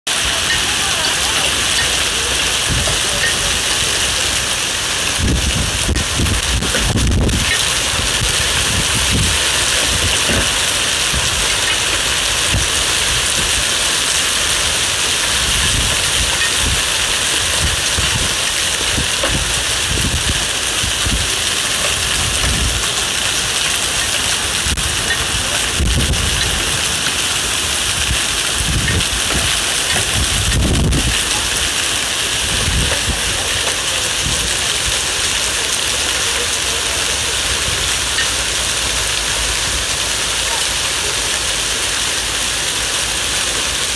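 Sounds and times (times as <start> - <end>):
hail and heavy rain on pavement: 0.0 - 43.9
low rumbles: 0.1 - 42.5.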